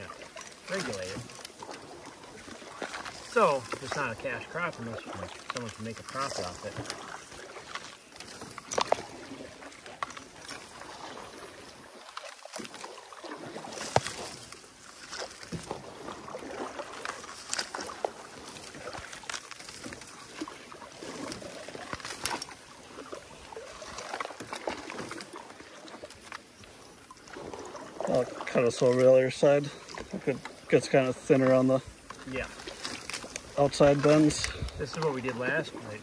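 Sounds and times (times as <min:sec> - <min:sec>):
rice stalks rustling: 0:00.0 - 0:36.0.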